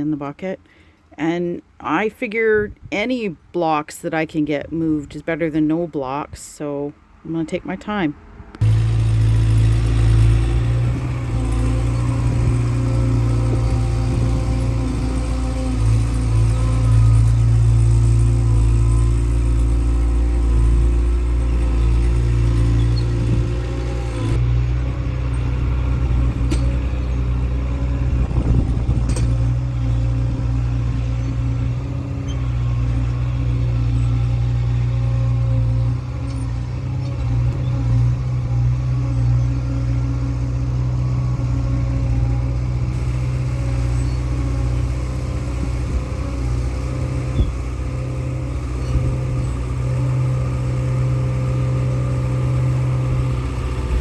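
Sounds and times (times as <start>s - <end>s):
skid steer engine running: 8.5s - 54.0s.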